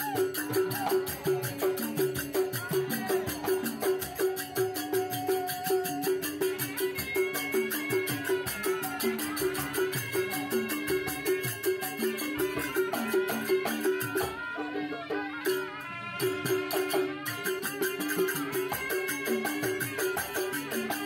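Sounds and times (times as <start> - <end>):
music with quick percussion beat: 0.0 - 21.0.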